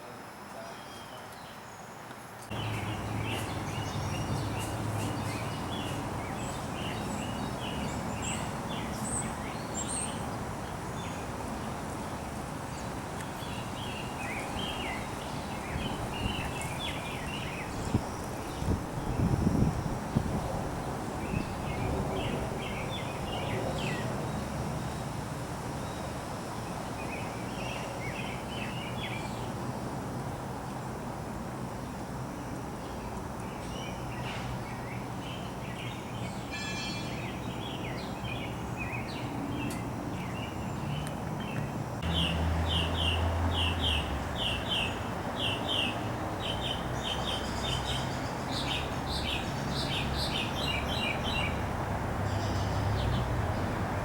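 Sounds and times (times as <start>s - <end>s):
bird chirping regularly: 0.5s - 25.2s, 25.8s - 29.9s, 31.8s - 54.0s
birds chirping: 0.5s - 25.2s, 31.8s - 54.0s.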